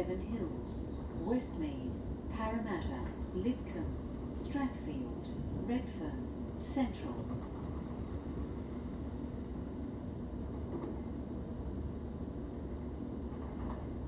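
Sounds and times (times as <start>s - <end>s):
electric train rumbling on rails: 0.0s - 14.0s.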